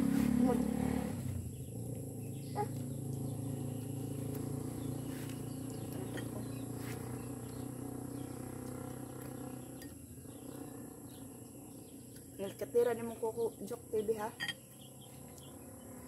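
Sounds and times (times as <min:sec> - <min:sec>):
distant engine hum: 0:00.0 - 0:16.0
faint bird chirps: 0:01.4 - 0:16.0.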